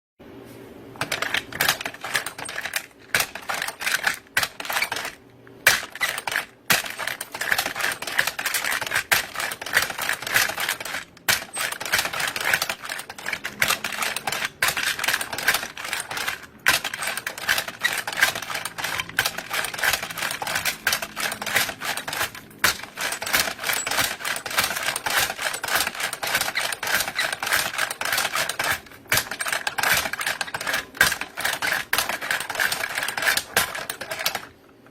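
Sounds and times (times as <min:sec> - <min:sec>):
belt-loading machine clattering: 0:01.0 - 0:34.9.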